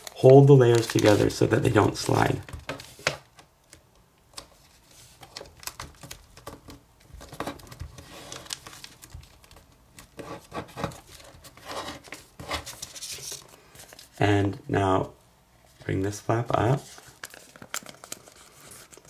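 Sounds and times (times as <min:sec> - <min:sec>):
paper crinkling and rustling: 0:00.0 - 0:14.2, 0:16.7 - 0:19.0.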